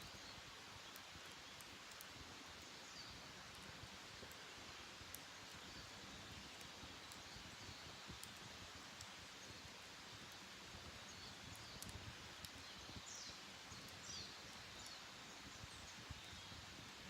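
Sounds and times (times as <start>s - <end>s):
faint clicks: 0.0s - 16.4s
wild birds chirping faintly: 0.0s - 17.0s.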